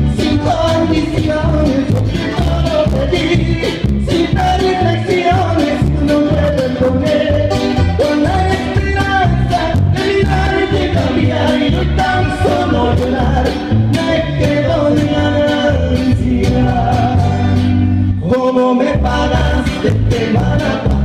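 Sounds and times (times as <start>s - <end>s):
latin band music with guitar: 0.0s - 21.0s.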